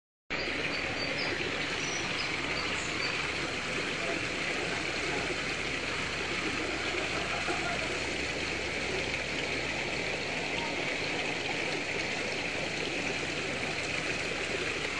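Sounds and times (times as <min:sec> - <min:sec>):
waterfall splashing into pond: 0:00.4 - 0:14.9.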